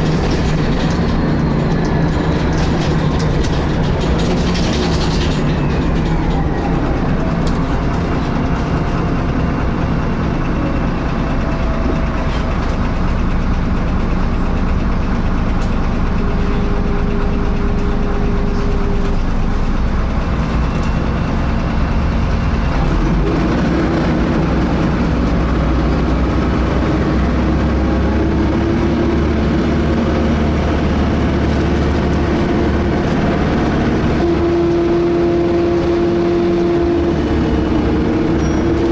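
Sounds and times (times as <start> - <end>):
bus engine and road noise: 0.0 - 38.9.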